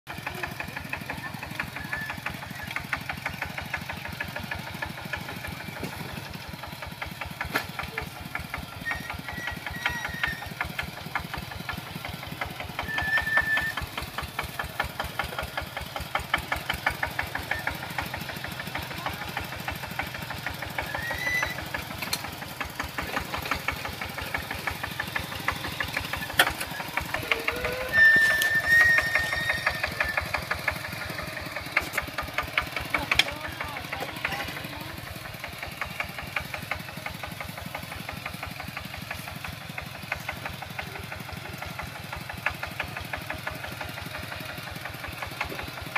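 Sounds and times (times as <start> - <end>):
diesel tractor engine chugging: 0.0 - 45.9.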